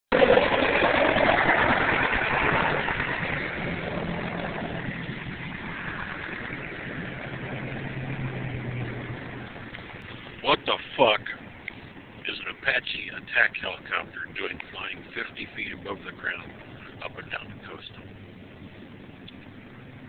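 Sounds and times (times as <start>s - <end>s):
helicopter rotor and engine: 0.2s - 20.0s.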